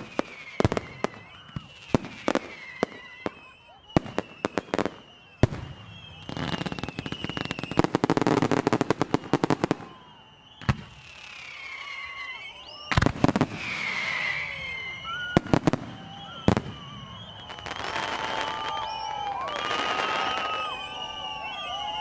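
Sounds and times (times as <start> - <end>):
firework bangs and crackling: 0.0 - 22.0
whistling fireworks: 0.0 - 22.0.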